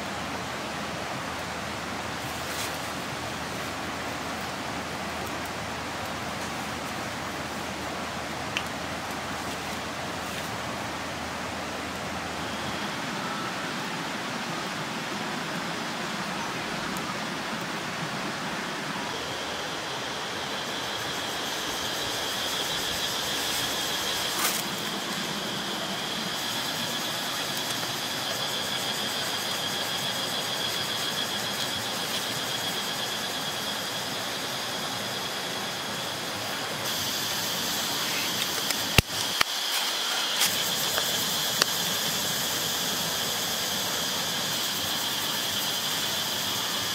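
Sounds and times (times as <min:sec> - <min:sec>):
hissing background noise: 0:00.0 - 0:46.9
high even whine: 0:01.4 - 0:46.9.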